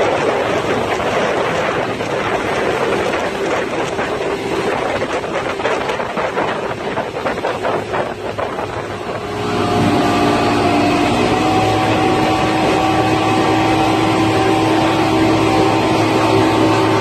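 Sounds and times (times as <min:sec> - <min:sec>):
motorboat engine drone: 0:00.0 - 0:17.0
rushing water: 0:00.0 - 0:17.0
rushing wind: 0:00.0 - 0:17.0.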